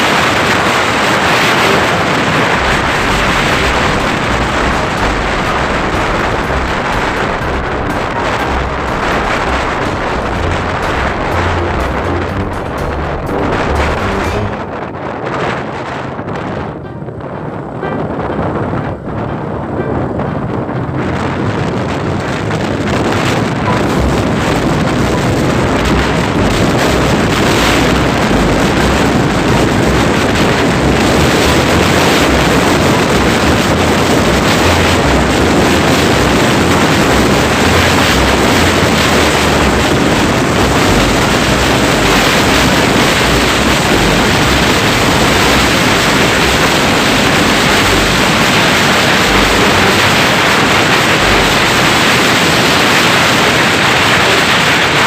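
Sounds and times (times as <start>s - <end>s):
motorcycle engine: 0.0s - 14.8s, 23.1s - 55.0s
wind buffeting microphone: 0.0s - 55.0s.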